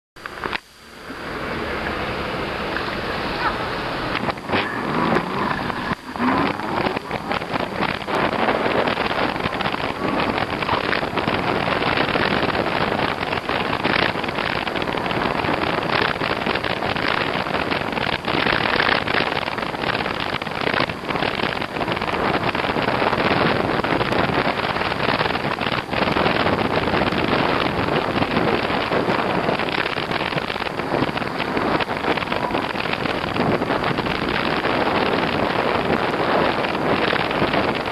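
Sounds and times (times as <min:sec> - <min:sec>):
wind buffeting microphone: 0:00.2 - 0:37.9.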